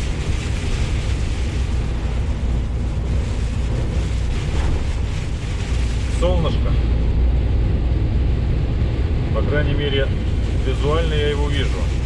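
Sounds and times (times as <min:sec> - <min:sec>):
road noise: 0:00.0 - 0:12.0
truck engine rumble: 0:00.0 - 0:12.0
wind and rain against cab: 0:00.0 - 0:12.0.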